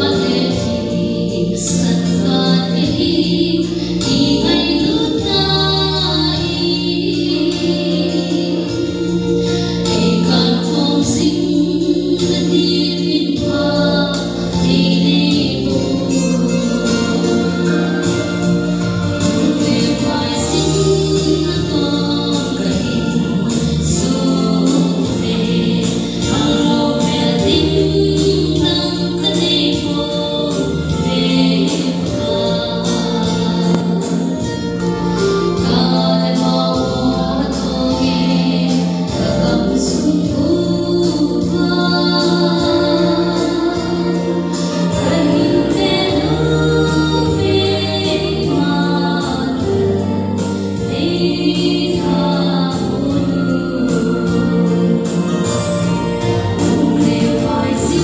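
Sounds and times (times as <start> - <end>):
instrumental accompaniment: 0.0 - 58.0
woman singing into a microphone: 0.0 - 58.0.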